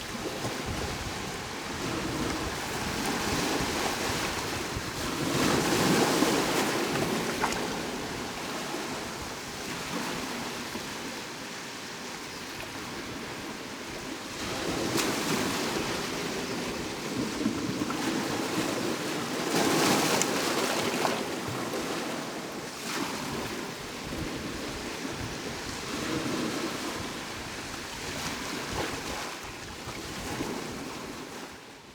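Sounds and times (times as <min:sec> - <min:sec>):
sea waves breaking on shore: 0:00.0 - 0:31.9.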